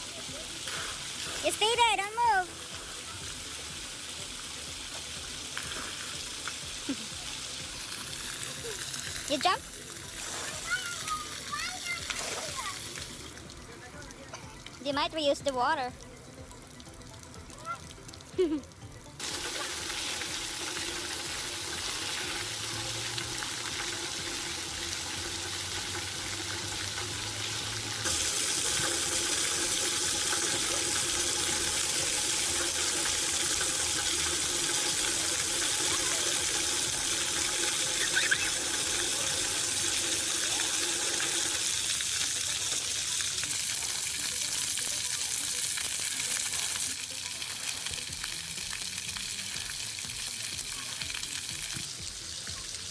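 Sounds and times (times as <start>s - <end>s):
water jets spraying and splashing: 0.0s - 52.9s.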